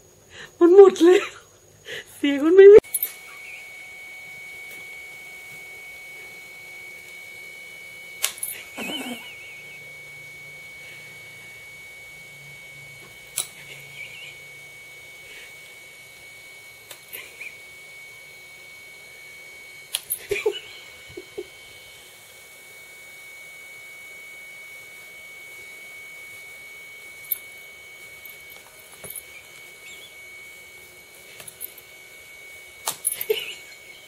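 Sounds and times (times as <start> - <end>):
high-pitched whine: 2.6 - 34.0.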